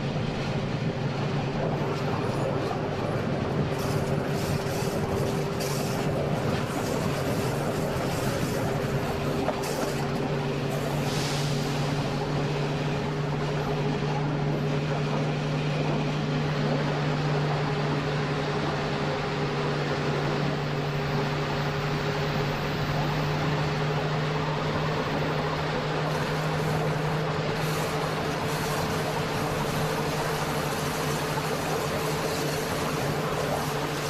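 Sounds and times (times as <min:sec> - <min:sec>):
electric train hum: 0:00.0 - 0:34.0
wheels rumbling on rails: 0:00.0 - 0:34.0.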